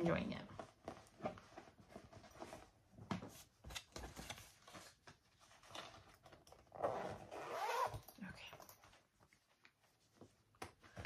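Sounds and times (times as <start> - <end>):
rustling and crinkling materials: 0.0 - 11.0.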